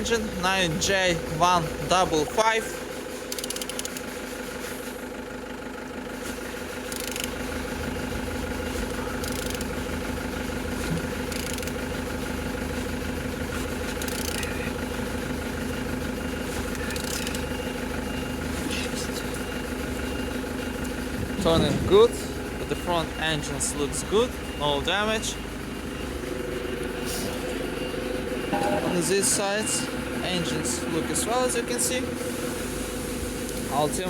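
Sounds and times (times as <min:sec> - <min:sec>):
diesel engine cranking: 0:00.0 - 0:34.0
mechanical hum: 0:06.1 - 0:34.0.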